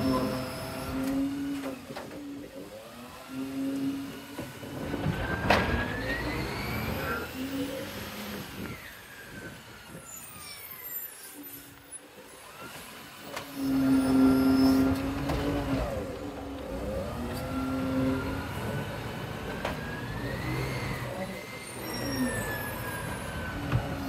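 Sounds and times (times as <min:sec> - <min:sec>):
loud hydraulic hum: 0:00.0 - 0:24.0.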